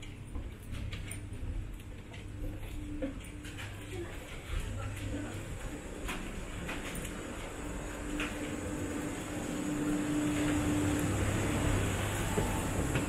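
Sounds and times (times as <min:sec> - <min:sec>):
ventilation hum and air rush: 0:00.0 - 0:13.0.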